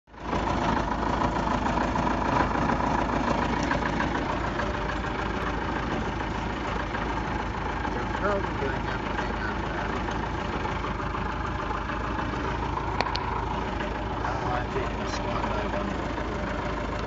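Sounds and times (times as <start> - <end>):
light aircraft engine and propeller: 0.1 - 17.0.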